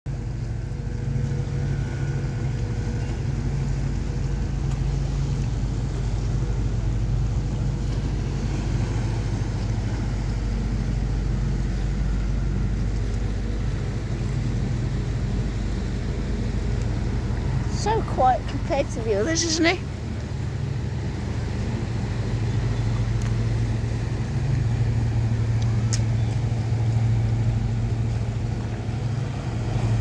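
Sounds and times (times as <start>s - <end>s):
ship engines droning: 0.1s - 30.0s.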